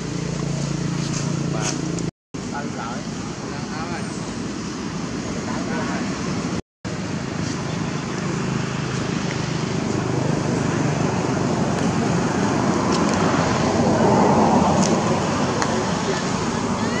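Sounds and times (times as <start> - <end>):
outdoor rushing background noise: 0.0 - 17.0.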